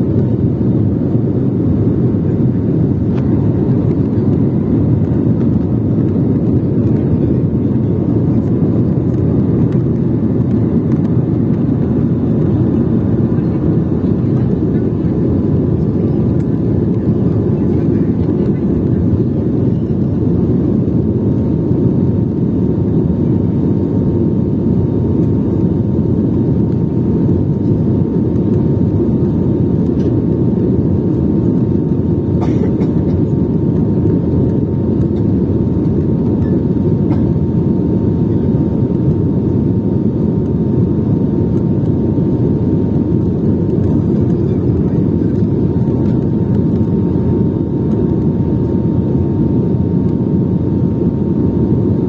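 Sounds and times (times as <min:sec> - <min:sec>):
faint engine whine: 0:00.0 - 0:52.0
jet engines rushing: 0:00.0 - 0:52.0.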